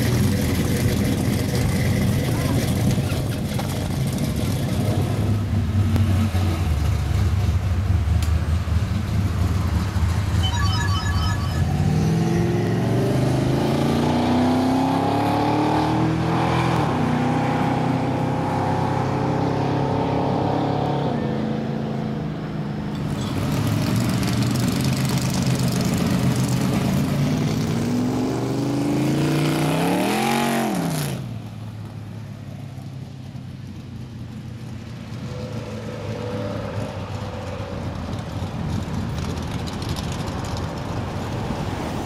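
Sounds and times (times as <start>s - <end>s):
cars driving by: 0.0s - 42.0s.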